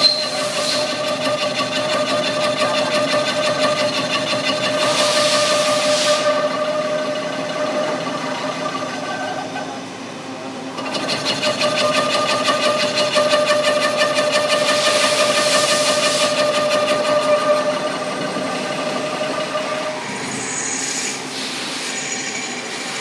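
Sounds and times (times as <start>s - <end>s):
lathe whine with rattle: 0.0s - 23.0s.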